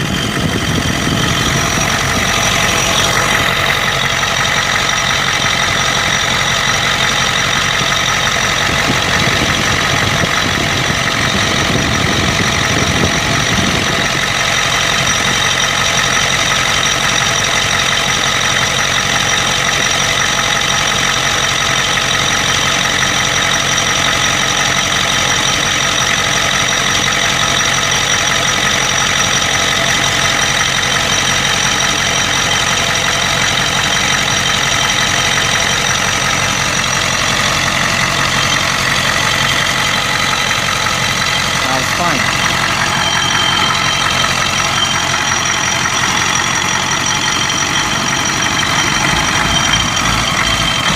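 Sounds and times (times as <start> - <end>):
diesel engine idling with knock: 0.0 - 50.9.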